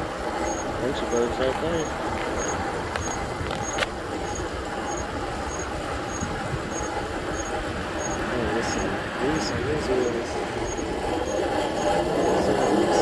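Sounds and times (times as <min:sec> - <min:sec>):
tyre and wind rumble: 0:01.4 - 0:13.0.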